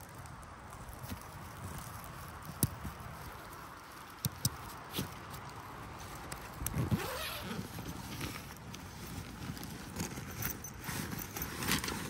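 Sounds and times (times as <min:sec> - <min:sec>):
tent bag rustling: 0:00.0 - 0:12.0
wind in pines: 0:00.0 - 0:12.0.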